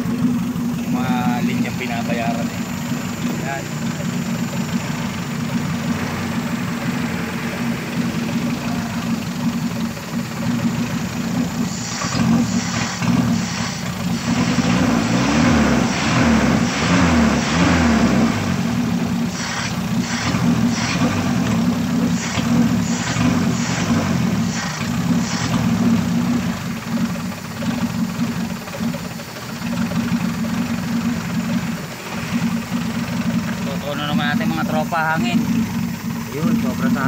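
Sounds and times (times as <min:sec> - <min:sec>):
car engine idling unevenly: 0:00.0 - 0:37.0.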